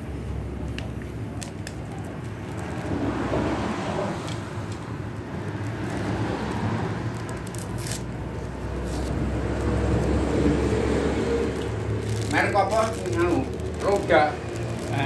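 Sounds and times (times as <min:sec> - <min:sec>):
plastic mailer rustling and tearing: 0:01.3 - 0:03.4, 0:04.2 - 0:15.0.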